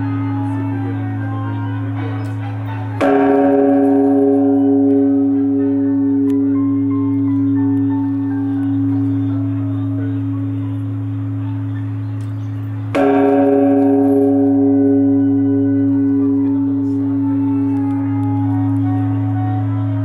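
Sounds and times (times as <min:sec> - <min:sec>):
deep bell hum: 0:00.0 - 0:20.0
temple bell struck: 0:00.0 - 0:20.0.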